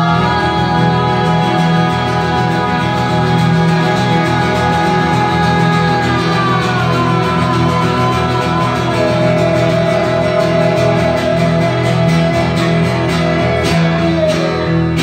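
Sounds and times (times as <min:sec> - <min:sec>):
man singing long note: 0:00.0 - 0:14.7
acoustic guitars strumming: 0:00.0 - 0:15.0.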